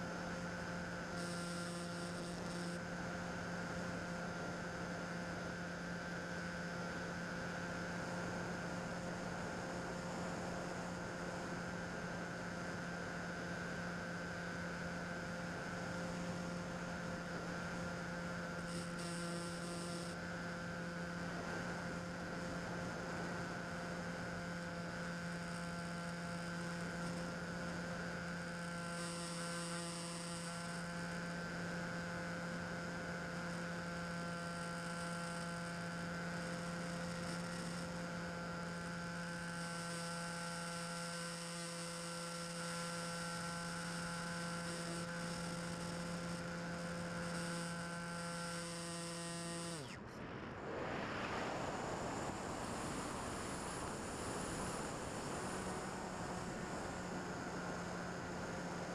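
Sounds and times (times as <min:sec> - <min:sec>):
electric motor and propeller droning: 0:00.0 - 0:58.9.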